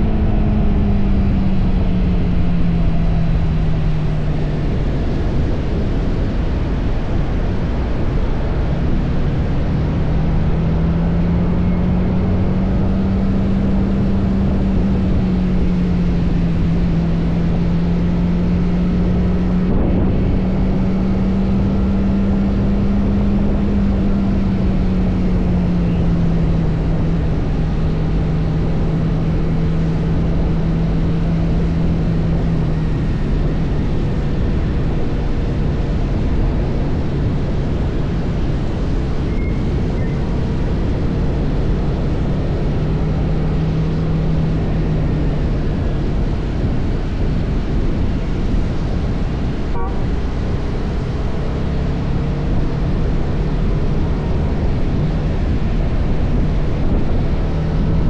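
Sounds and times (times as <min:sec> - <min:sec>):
motorcycle engine cruising: 0:00.0 - 0:58.0
wind and road noise rushing: 0:00.0 - 0:58.0.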